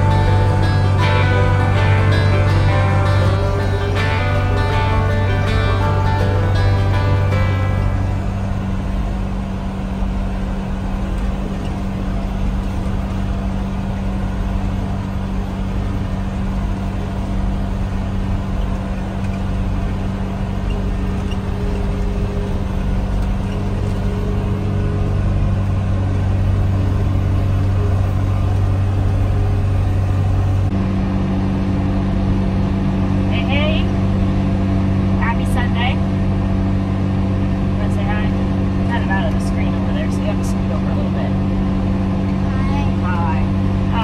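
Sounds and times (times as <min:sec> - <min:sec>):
tractor engine drone: 0:00.0 - 0:44.0.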